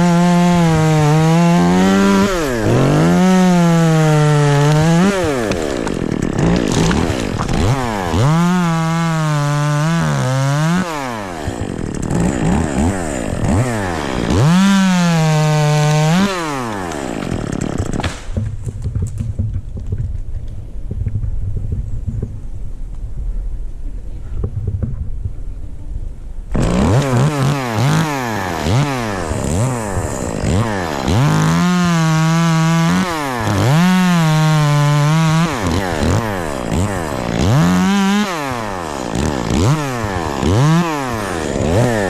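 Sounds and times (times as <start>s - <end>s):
chainsaw cutting wood: 0.0s - 20.2s, 26.5s - 42.0s.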